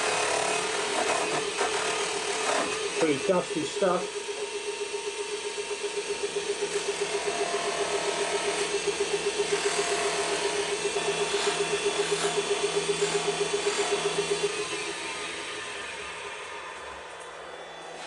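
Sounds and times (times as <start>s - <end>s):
buffing mop motor humming: 0.0s - 18.0s.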